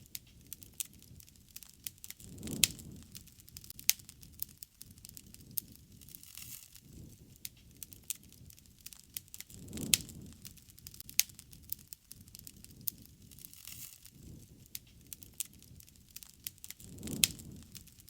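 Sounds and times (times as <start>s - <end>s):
wood campfire crackling: 0.0s - 18.0s.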